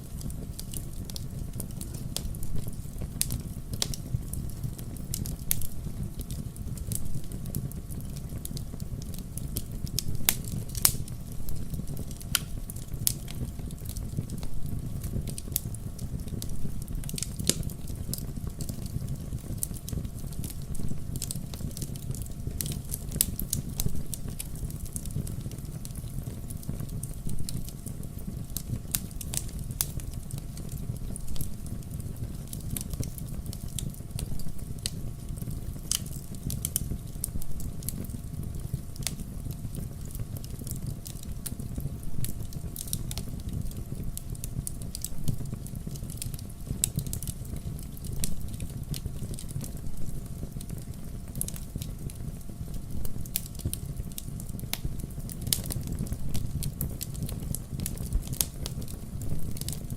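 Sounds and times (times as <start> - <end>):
logs crackling and popping: 0.0 - 59.9
low rumble of flames: 0.0 - 59.9.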